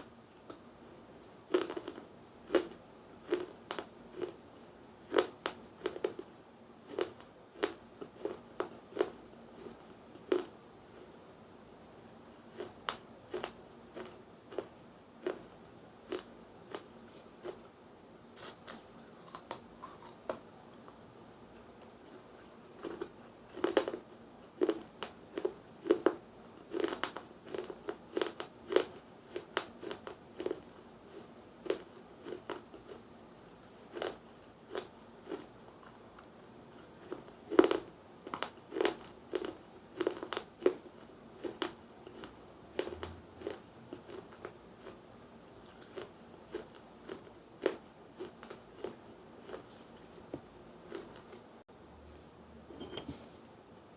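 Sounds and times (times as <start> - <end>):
soft chewing: 0.0 - 11.5, 12.2 - 53.5.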